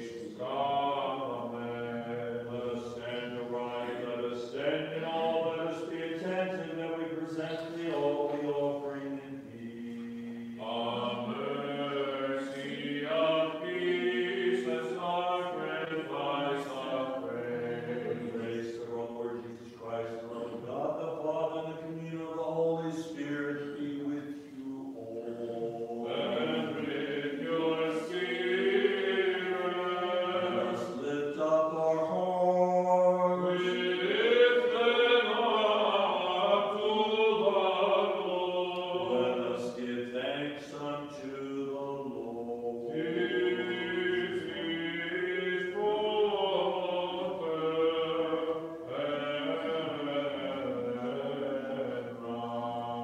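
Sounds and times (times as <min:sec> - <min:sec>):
unaccompanied chant singing: 0:00.0 - 0:53.0.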